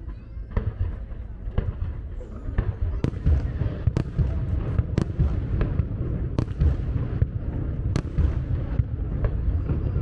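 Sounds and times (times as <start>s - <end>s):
fireworks booming: 0.4s - 10.0s
sharp firework cracks: 0.5s - 9.9s.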